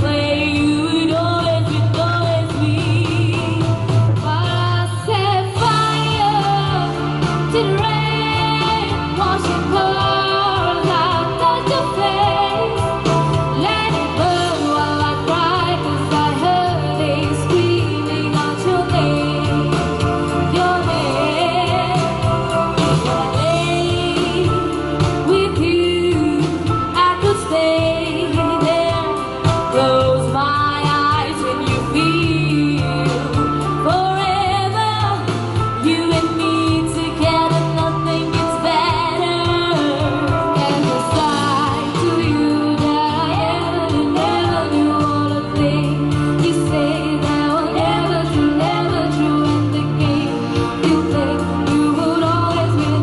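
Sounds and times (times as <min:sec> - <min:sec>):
band playing bass line: 0:00.0 - 0:53.0
women singing: 0:00.0 - 0:53.0.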